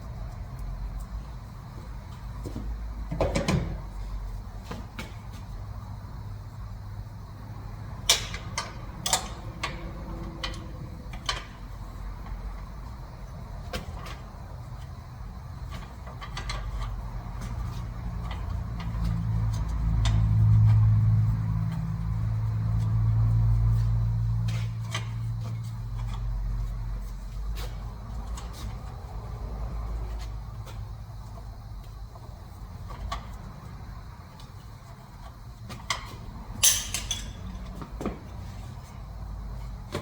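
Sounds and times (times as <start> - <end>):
vehicle engine humming: 4.0 - 40.0.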